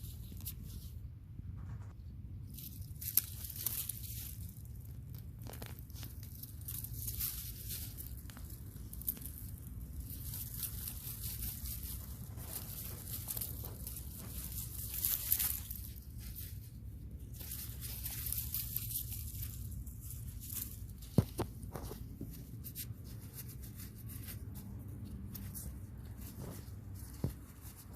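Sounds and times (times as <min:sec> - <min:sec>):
soil and dry plants rustling: 0:00.0 - 0:27.9.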